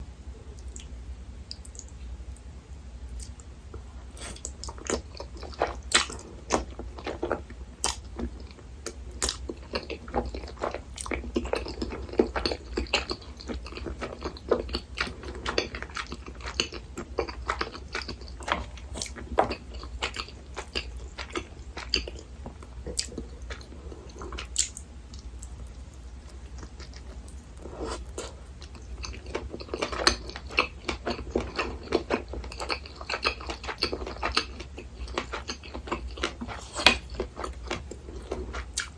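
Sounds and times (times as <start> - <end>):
steady low hum: 0.0 - 38.9
person chewing and biting food: 4.1 - 38.9.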